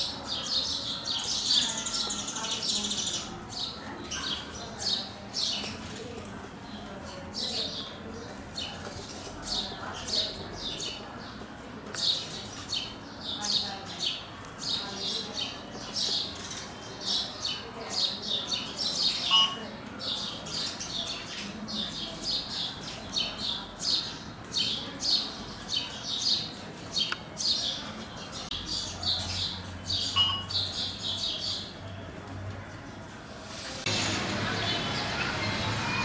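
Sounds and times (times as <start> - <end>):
sparrows chirping: 0.0 - 32.0.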